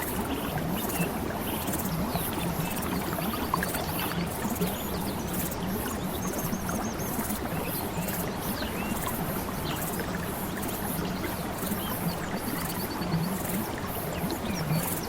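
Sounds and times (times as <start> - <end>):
faint bird chirps and trills: 0.3 - 15.0.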